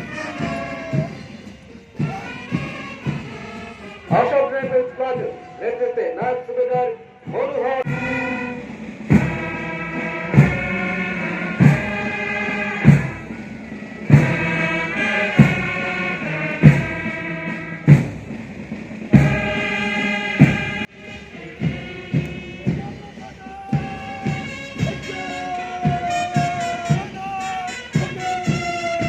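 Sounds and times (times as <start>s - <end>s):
heavy drum strokes: 0.0s - 5.8s, 7.2s - 29.0s
parade band melody: 0.0s - 29.0s.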